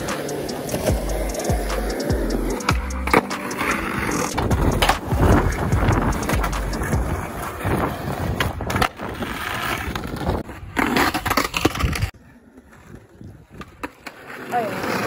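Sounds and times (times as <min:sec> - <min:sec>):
skateboard clacking on ground: 0:00.0 - 0:15.0
skateboard wheels rolling on asphalt: 0:00.0 - 0:15.0.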